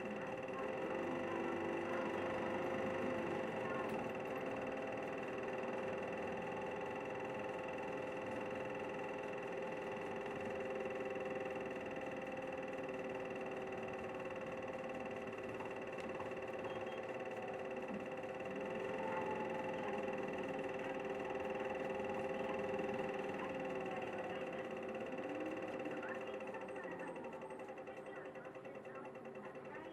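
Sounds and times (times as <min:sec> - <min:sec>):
bus engine running: 0:00.0 - 0:29.9.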